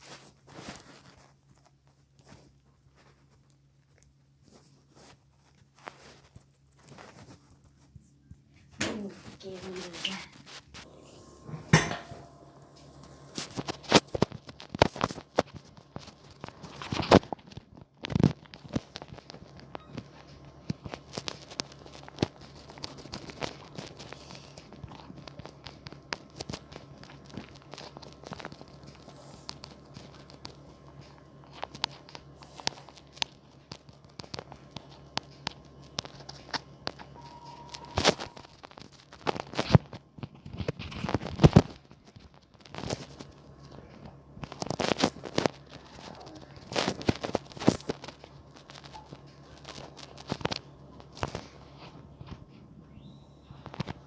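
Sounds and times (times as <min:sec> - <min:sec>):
low steady hum: 0:00.2 - 0:54.0.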